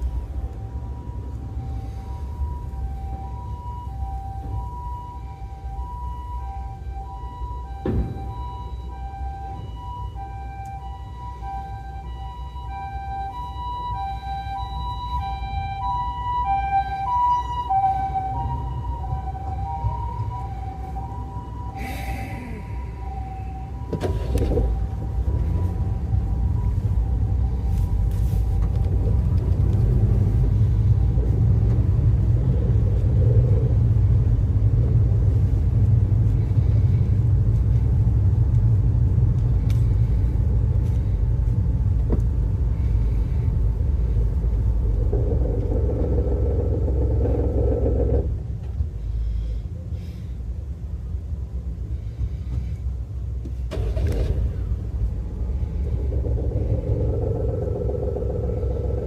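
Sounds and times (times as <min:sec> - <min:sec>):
car low rumble: 0:00.0 - 0:59.0.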